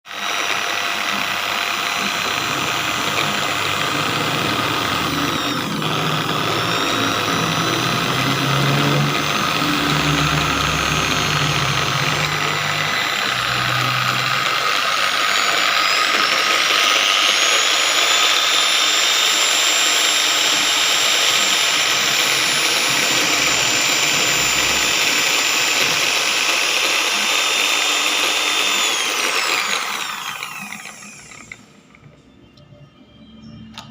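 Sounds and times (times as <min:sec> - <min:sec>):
car polishing machine whine: 0:00.0 - 0:33.9.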